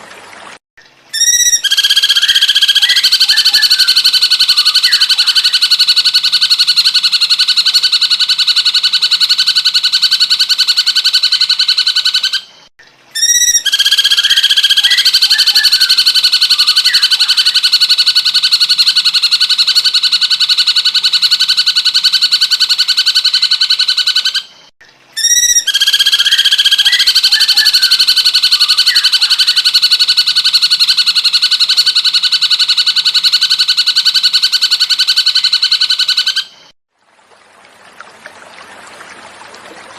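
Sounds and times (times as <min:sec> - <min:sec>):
bird trilling fast: 0:01.1 - 0:12.5, 0:13.2 - 0:24.5, 0:25.2 - 0:36.6.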